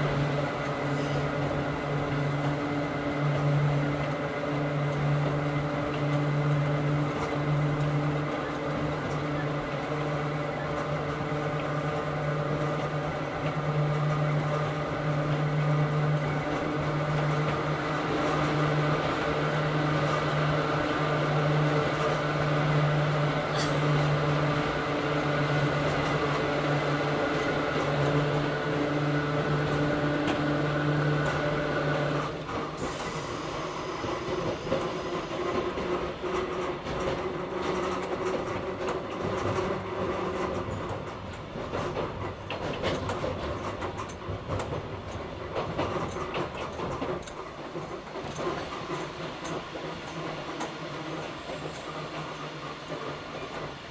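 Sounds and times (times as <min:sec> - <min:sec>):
train wheels on track: 0:00.0 - 0:53.9.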